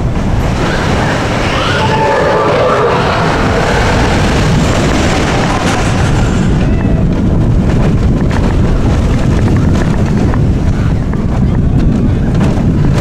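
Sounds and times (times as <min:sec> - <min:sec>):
roller coaster rumbling on track: 0:00.0 - 0:13.0
wind buffeting microphone: 0:00.0 - 0:13.0.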